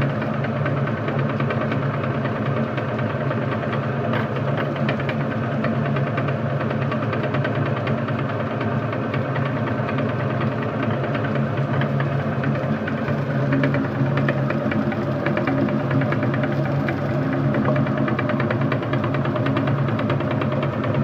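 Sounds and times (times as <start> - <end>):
meat grinder motor humming: 0.0 - 21.0.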